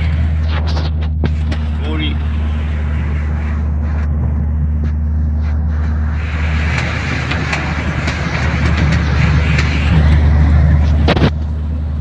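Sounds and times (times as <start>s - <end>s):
road and tyre hiss: 0.0s - 12.0s
van engine drone: 0.0s - 12.0s.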